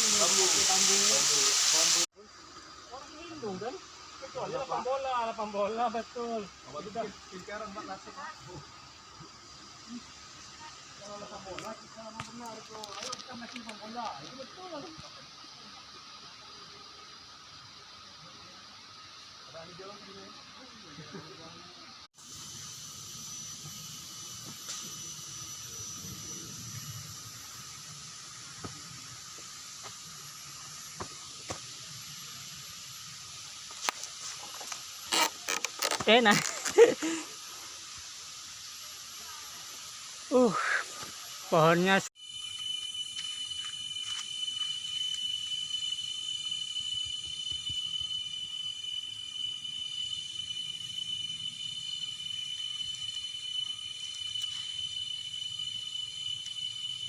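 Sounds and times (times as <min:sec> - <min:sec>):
insects droning: 0:00.0 - 0:57.0
outdoor ambience hiss: 0:00.0 - 0:57.0.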